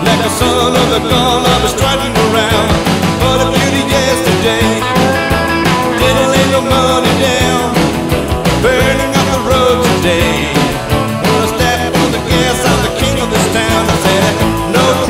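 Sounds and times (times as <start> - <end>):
rock music with singing: 0.0 - 15.0.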